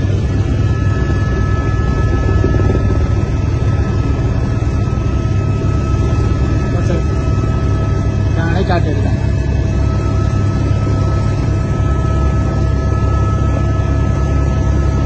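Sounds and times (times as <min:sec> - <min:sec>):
helicopter rotor and engine rumble: 0:00.0 - 0:15.0
thin steady whine: 0:00.0 - 0:15.0.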